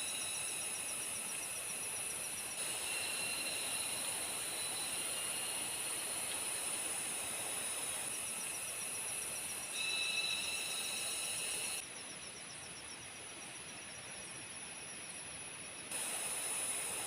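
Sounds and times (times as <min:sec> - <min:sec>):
insects high-pitched calls: 0:00.0 - 0:17.0.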